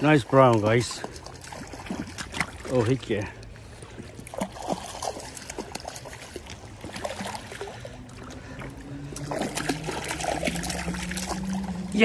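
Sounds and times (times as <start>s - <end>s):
creek water trickling over rocks: 0.0s - 12.0s
fish splashing at surface: 0.5s - 12.0s.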